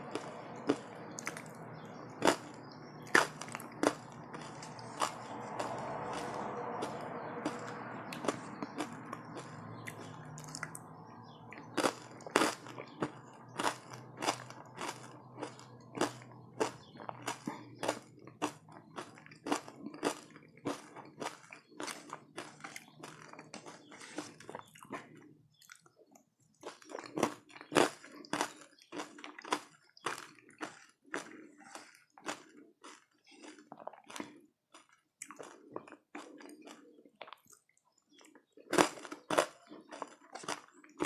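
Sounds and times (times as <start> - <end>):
chewing crunchy food: 0.0 - 41.0.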